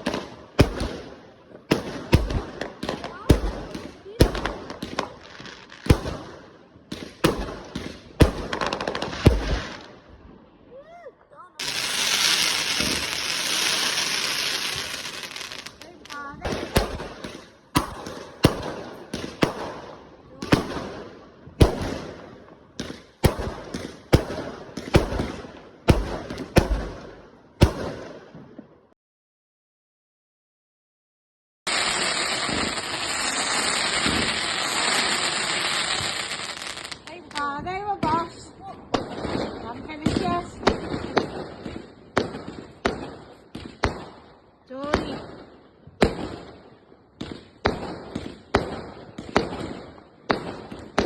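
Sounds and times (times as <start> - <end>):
fireworks exploding with crackle: 0.0 - 28.7, 31.7 - 51.0.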